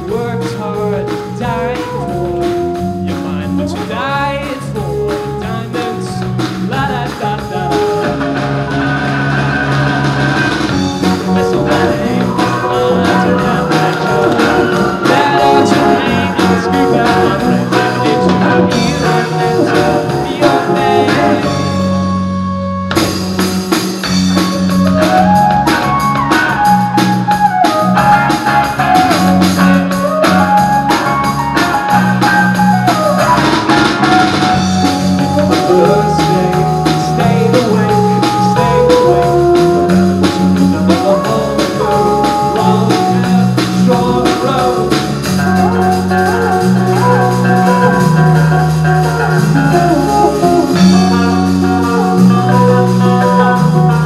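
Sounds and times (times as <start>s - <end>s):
live band with guitar and drums: 0.0s - 54.0s.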